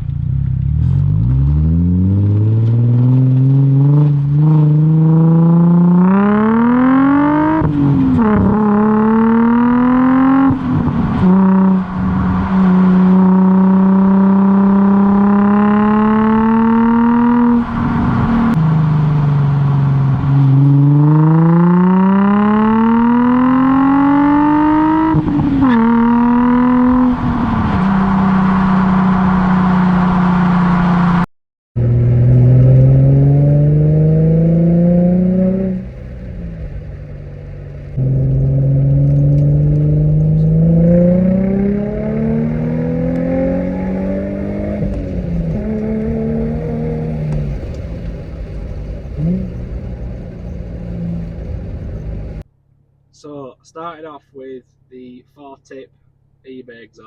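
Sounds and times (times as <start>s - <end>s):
car engine accelerating: 0.0s - 52.5s.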